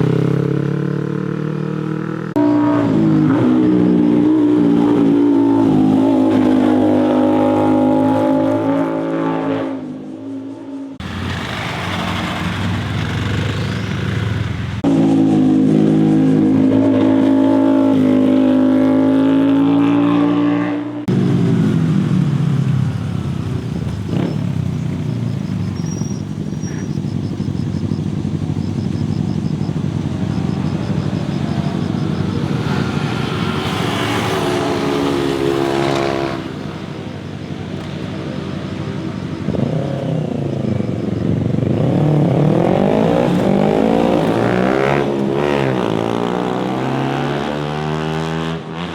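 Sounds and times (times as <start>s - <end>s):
motorcycles revving past: 0.0s - 48.9s.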